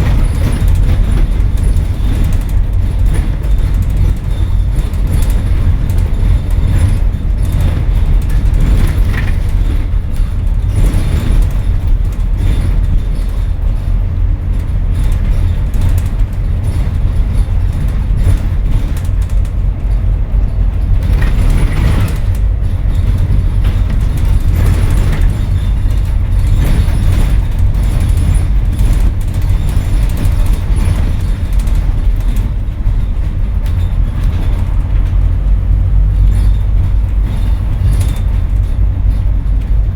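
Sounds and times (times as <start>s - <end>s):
bus body rattle: 0.0s - 39.9s
low diesel bus engine drone: 0.0s - 39.9s
road rumble: 0.0s - 39.9s.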